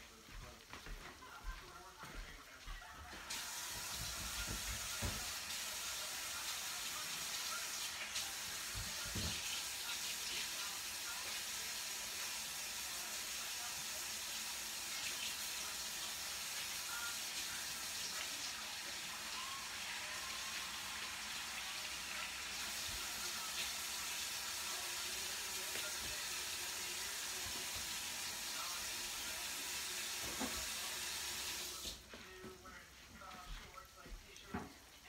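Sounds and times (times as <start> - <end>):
food sizzling in hot oil: 3.3 - 31.9.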